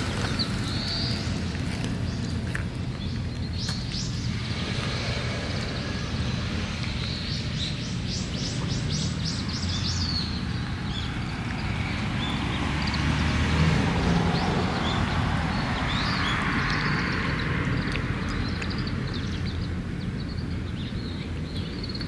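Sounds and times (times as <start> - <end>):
low outdoor rumble: 0.0 - 22.0
songbirds chirping: 0.0 - 22.0.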